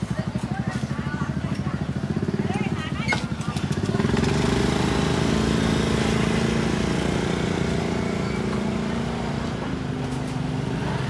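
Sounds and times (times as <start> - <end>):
motor scooter engine running: 0.0 - 11.0.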